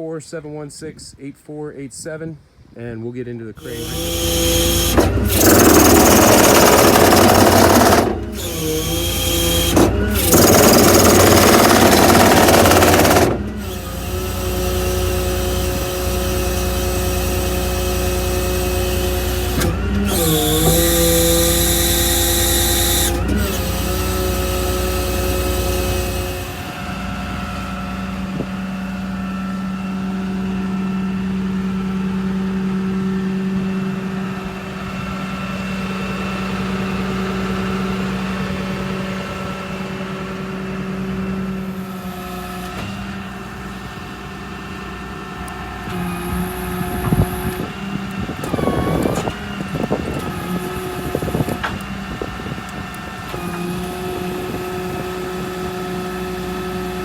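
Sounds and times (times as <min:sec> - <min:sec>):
crane hydraulics: 0:03.6 - 0:57.0
diesel engine running: 0:03.6 - 0:57.0.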